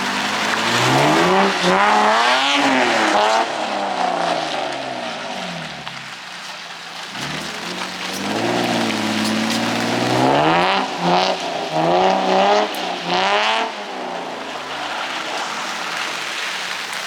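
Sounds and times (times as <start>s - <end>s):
car engine revving hard: 0.0s - 6.1s, 7.1s - 15.3s
rain hissing: 0.0s - 17.0s.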